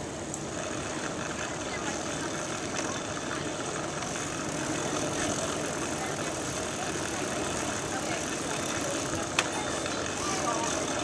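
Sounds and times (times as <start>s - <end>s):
bicycle tyres rolling on pavement: 0.0s - 11.0s.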